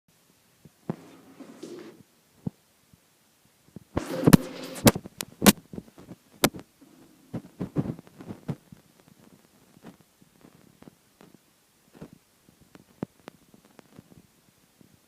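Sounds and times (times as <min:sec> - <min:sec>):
rustling: 0:00.9 - 0:02.0, 0:04.0 - 0:14.9.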